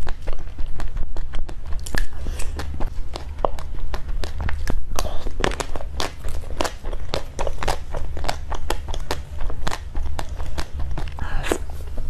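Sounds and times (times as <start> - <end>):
chewing and mouth sounds: 0.0 - 12.0
low steady hum: 0.0 - 12.0.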